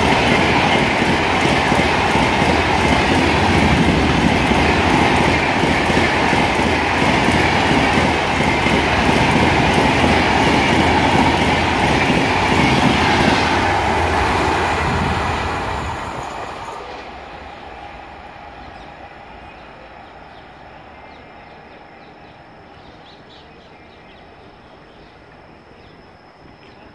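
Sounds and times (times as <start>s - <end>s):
train rushing past: 0.0s - 23.3s.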